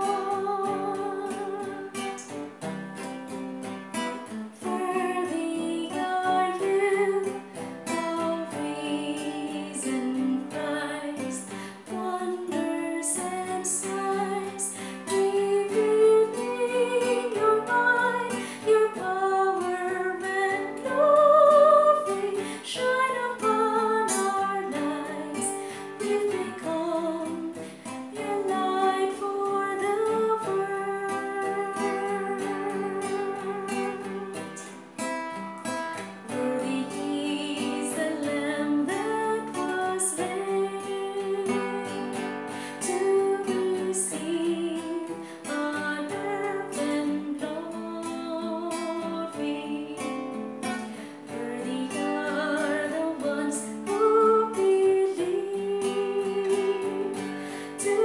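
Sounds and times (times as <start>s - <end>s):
woman singing a hymn: 0.0s - 2.4s, 4.6s - 34.8s, 36.2s - 58.0s
acoustic guitar: 0.0s - 58.0s.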